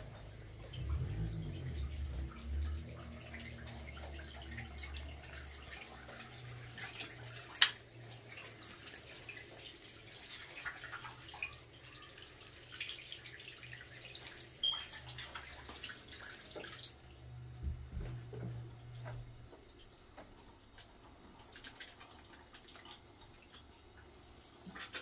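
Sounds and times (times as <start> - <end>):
tap water running into sink: 0.0 - 24.1.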